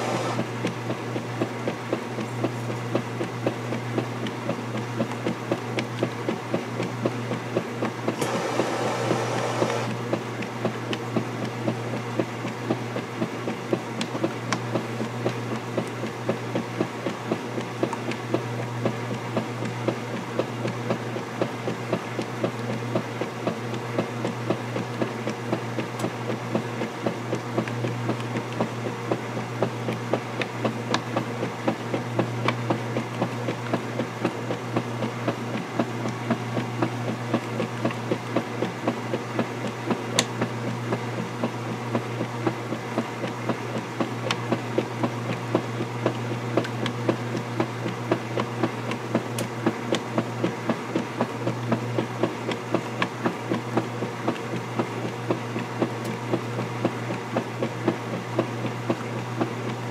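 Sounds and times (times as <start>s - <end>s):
agitator swishing through laundry: 0.0s - 59.9s
washing machine motor humming: 0.0s - 59.9s.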